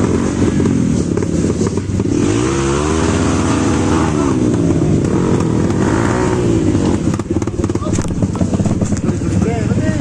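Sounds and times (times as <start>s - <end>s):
dirt bike engine revving: 0.0s - 10.0s
dirt bike engines running: 0.0s - 10.0s.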